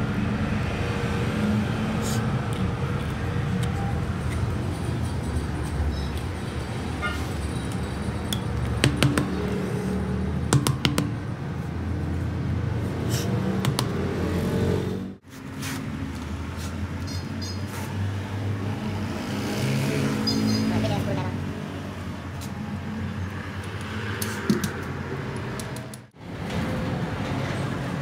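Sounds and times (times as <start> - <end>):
traffic and workshop rumble: 0.0 - 28.0.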